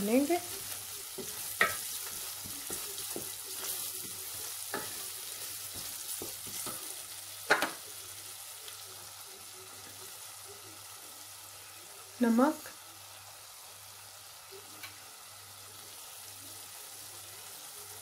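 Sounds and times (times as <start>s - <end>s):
masala sizzling in a pot: 0.0s - 18.0s.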